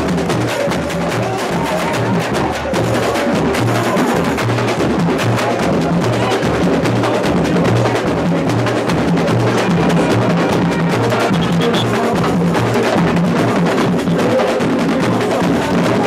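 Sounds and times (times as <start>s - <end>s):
fast snare drum clatter: 0.0s - 16.0s
low bass drum beats: 0.0s - 16.0s.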